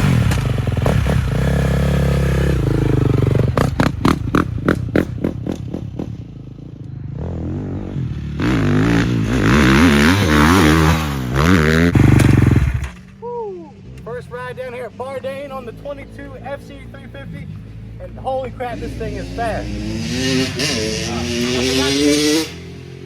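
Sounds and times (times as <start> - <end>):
dirt bike engine revving: 0.0 - 13.1, 13.9 - 23.0.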